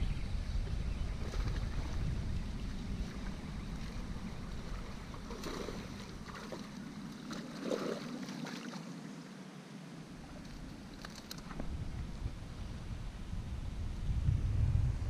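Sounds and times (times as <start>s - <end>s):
wind rumbling on microphone: 0.0s - 8.2s, 10.0s - 15.0s.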